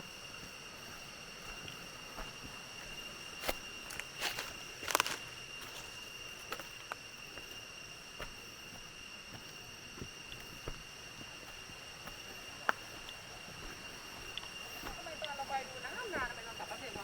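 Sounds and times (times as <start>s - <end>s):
footsteps on dirt: 0.0s - 17.0s
insects droning: 0.0s - 17.0s.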